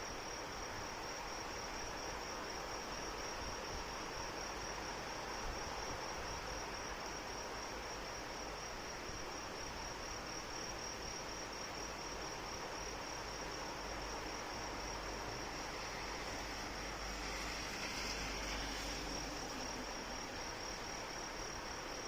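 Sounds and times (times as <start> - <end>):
rain hiss: 0.0 - 22.0
insects trilling: 1.7 - 22.0.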